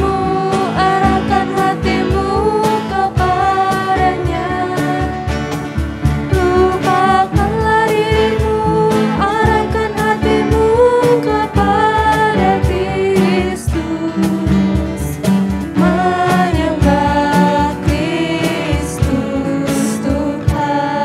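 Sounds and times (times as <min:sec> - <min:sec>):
two voices singing: 0:00.0 - 0:05.4, 0:06.2 - 0:21.0
acoustic guitar: 0:00.0 - 0:21.0
cajon beat: 0:00.0 - 0:21.0
piano: 0:00.0 - 0:21.0.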